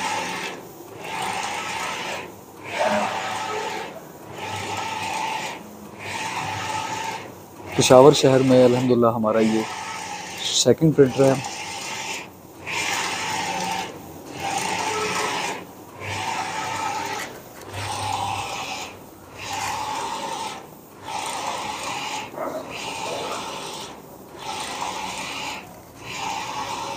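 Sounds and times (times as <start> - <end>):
printer carriage whirring: 0.0 - 26.9.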